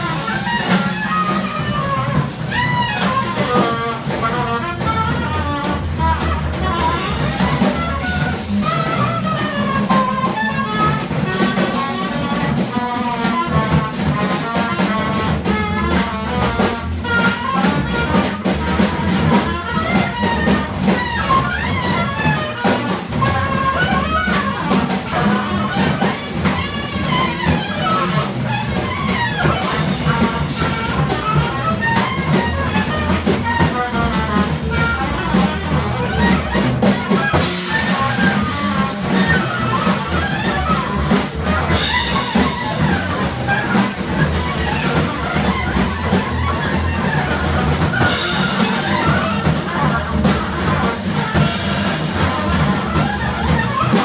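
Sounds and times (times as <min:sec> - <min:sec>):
busy jazz drumming: 0:00.0 - 0:54.0
cymbals: 0:00.0 - 0:54.0
double bass: 0:00.0 - 0:54.0
reed horn playing fast lines: 0:00.0 - 0:54.0.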